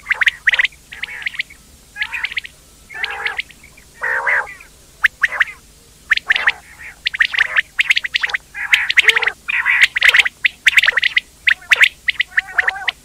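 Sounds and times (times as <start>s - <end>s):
quail calling: 0.0s - 13.0s.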